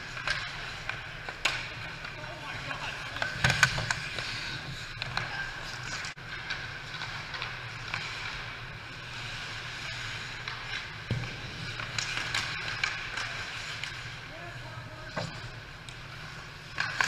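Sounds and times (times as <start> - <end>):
hockey sticks and puck clacking: 0.0 - 17.0
low hum of rink: 0.0 - 17.0
skate blades scraping ice: 0.0 - 17.0.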